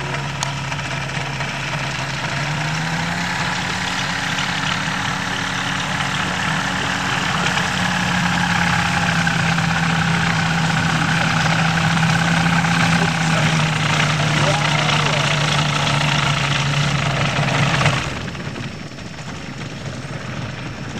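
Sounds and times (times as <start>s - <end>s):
light airplane engine running: 0.0s - 20.9s.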